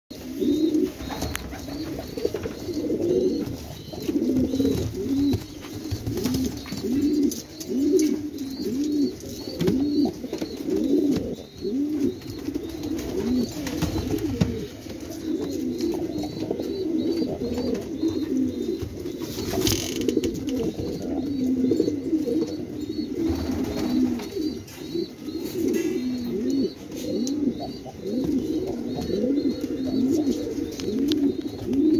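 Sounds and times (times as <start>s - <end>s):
pigeons cooing: 0.1s - 31.9s.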